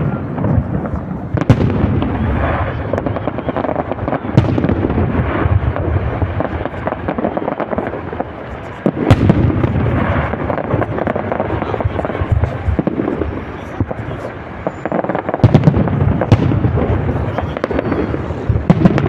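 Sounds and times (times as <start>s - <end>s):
fireworks crackling and rumble: 0.0s - 19.0s.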